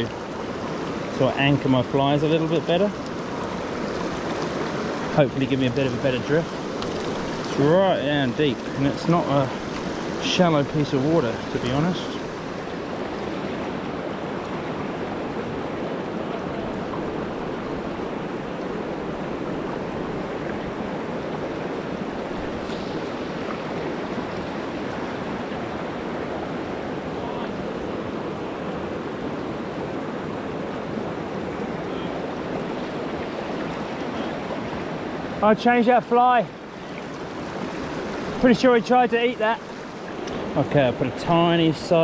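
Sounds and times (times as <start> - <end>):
river water rushing over stones: 0.0 - 42.0.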